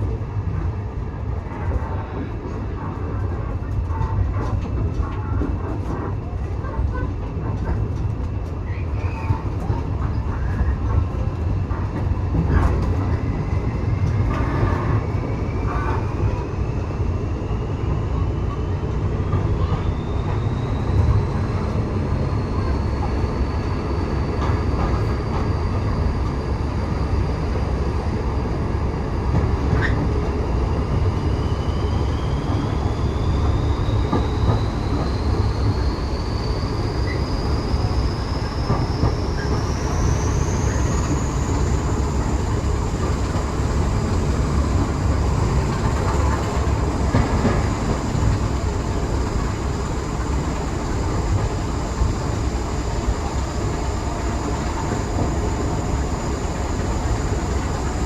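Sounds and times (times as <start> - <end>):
train carriage rumbling on track: 0.0 - 58.0.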